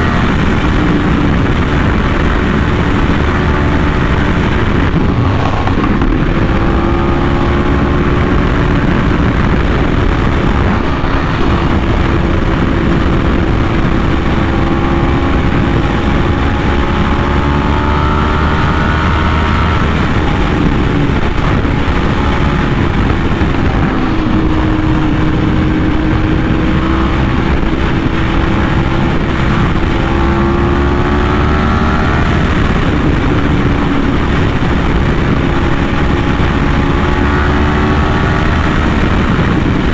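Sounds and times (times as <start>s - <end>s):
motorcycle engine revving: 0.0s - 39.9s
steady rush of noise: 0.0s - 39.9s.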